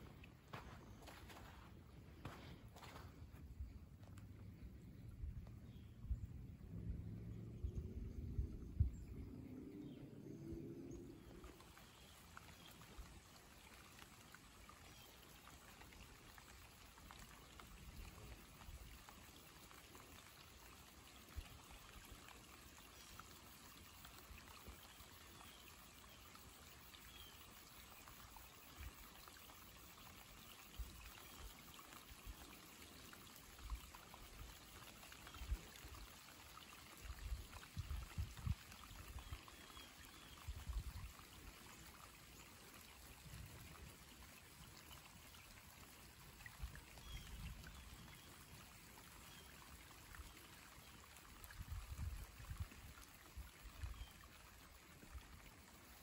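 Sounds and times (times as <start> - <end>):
rain falling on water: 0.0 - 56.0.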